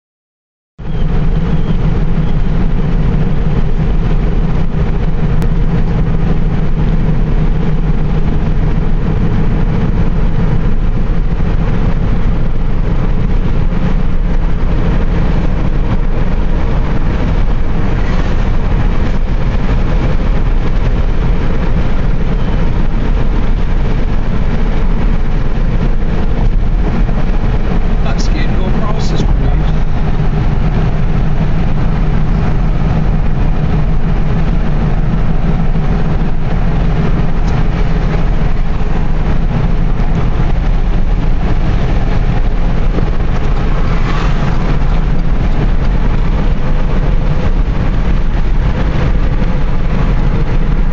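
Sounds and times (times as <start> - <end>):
car cabin road noise: 0.8 - 50.9.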